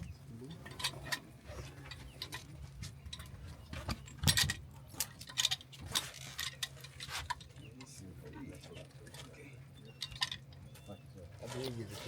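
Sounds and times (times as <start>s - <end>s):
fishing gear clicking and knocking: 0.0s - 8.0s, 8.7s - 10.9s.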